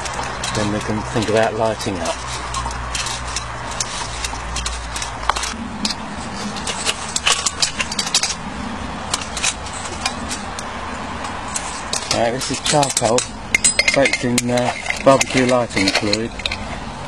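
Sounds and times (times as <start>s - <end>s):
small hard objects clinking: 0.0s - 8.4s, 9.0s - 16.7s
low steady hum: 0.0s - 17.0s.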